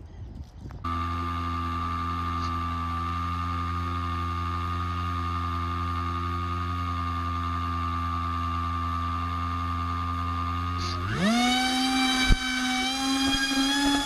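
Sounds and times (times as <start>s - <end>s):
electric motor whining: 0.8s - 14.0s.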